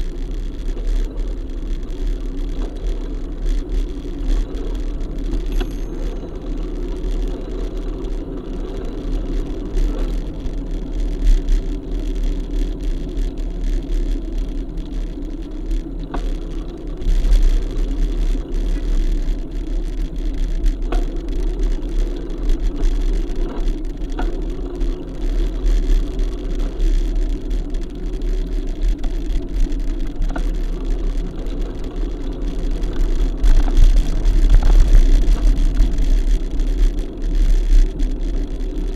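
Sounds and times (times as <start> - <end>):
vehicle engine drone: 0.0 - 38.9
wind rumble on microphone: 0.0 - 38.9.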